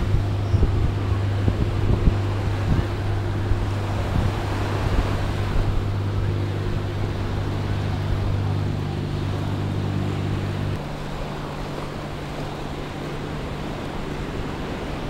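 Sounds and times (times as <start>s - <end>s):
small waves washing onto sand: 0.0s - 15.0s
steady low drone: 0.0s - 15.0s
wind on microphone: 0.0s - 15.0s.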